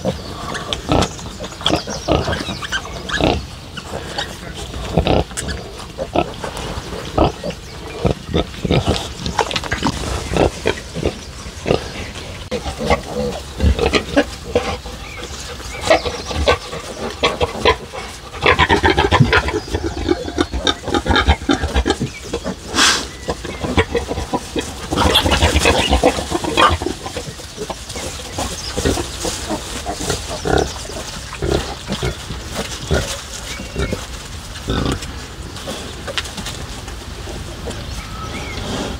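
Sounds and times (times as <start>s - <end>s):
pigs grunting and squealing: 0.0s - 35.9s.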